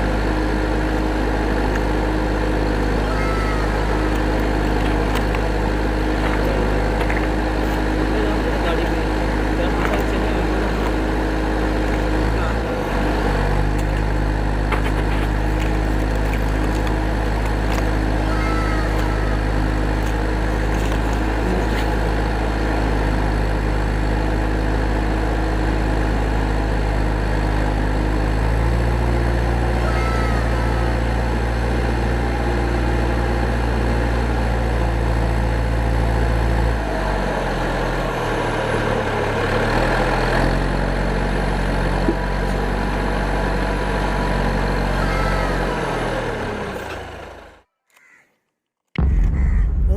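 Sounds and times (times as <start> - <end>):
vehicle engine humming: 0.0 - 47.7, 49.0 - 49.9.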